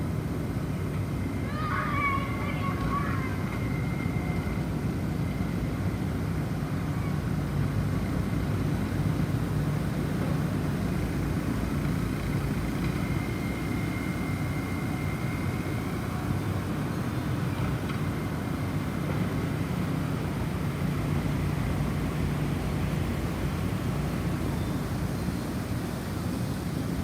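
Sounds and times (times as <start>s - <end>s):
snowstorm wind rumbling: 0.0s - 27.0s.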